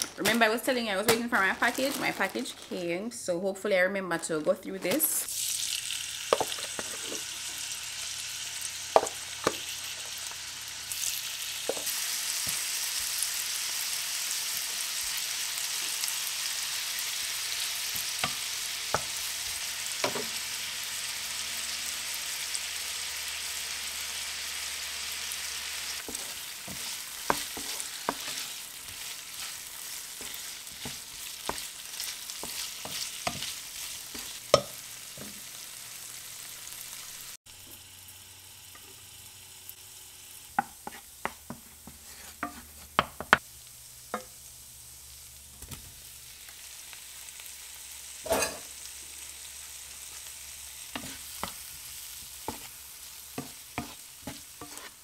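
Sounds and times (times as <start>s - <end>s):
chicken sizzling in oil: 5.2s - 55.0s.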